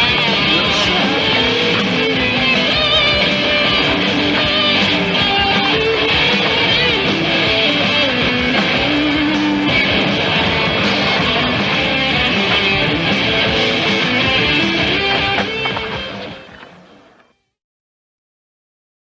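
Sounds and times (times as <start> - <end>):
rock music with guitar: 0.0 - 17.4.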